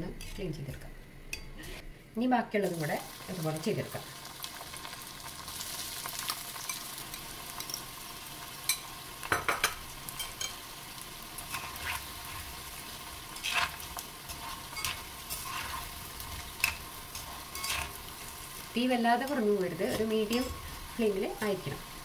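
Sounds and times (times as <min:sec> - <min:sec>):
food sizzling in hot oil: 0:02.6 - 0:22.0.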